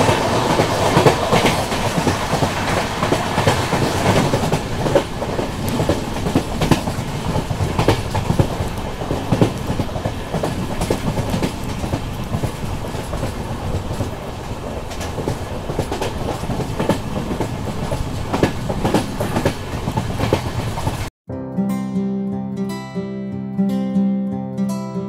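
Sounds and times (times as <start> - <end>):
rail joint clicks and knocks: 0.0 - 21.1
train wheels rumbling on track: 0.0 - 21.1.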